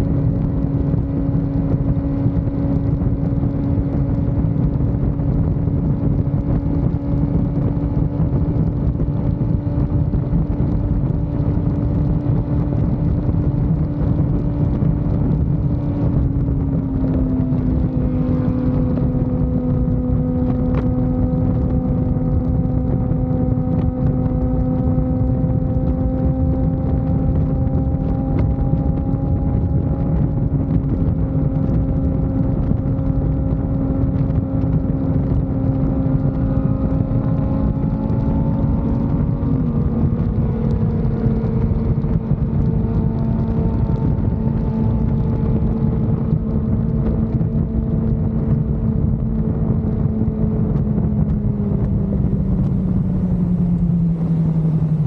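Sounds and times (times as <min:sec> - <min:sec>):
motorcycle engine cruising: 0:00.0 - 0:55.0
road noise: 0:00.0 - 0:55.0
wind rush: 0:00.0 - 0:55.0.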